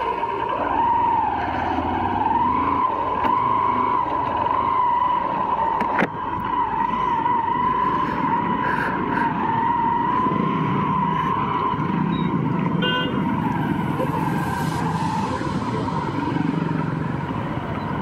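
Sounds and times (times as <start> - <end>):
high whine: 0.0 - 18.0
motorcycle engine and road rumble: 0.0 - 18.0.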